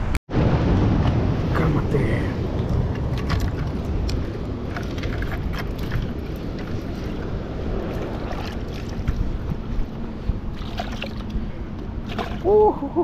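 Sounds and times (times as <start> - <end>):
wind on microphone: 0.0 - 13.0
surf washing against rocks: 0.3 - 13.0.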